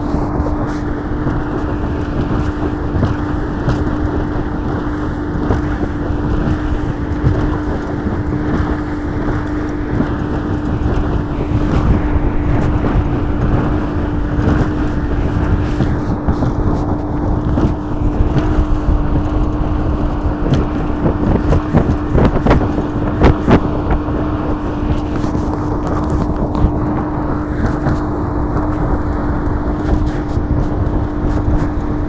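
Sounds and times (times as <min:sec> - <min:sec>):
outboard motor droning: 0:00.0 - 0:32.0
wind and water rushing: 0:00.0 - 0:32.0.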